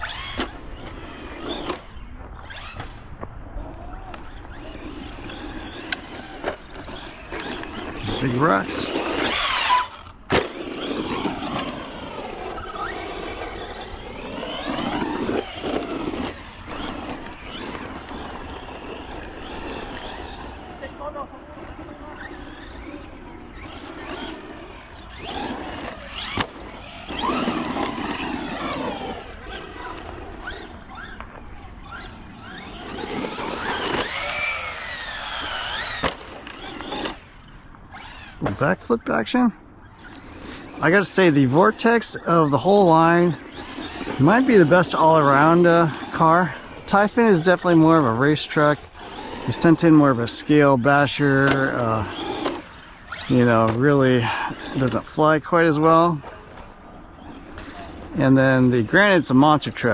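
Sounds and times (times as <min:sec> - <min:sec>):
electric motor whining: 0:03.6 - 0:38.6, 0:39.8 - 0:59.9.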